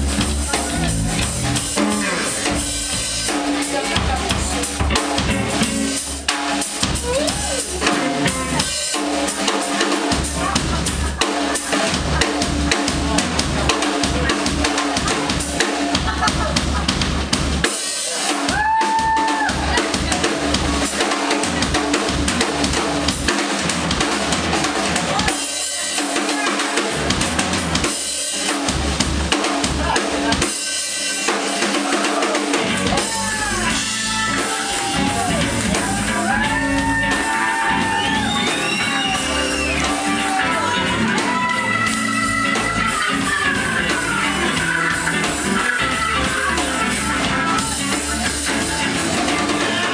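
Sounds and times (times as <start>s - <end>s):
drum kit rock groove: 0.0s - 49.9s
full band music: 0.0s - 49.9s.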